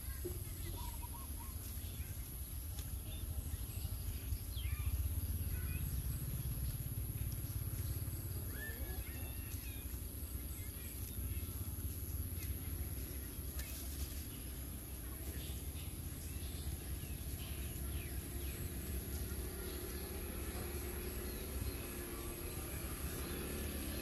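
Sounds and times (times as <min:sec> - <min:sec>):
bird chirps: 0:00.0 - 0:24.0
low steady rumble: 0:00.0 - 0:24.0.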